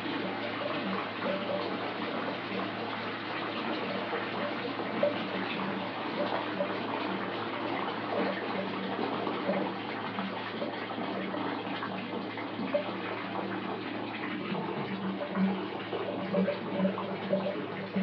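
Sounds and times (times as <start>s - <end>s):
water pouring from tap into tub: 0.0s - 18.0s.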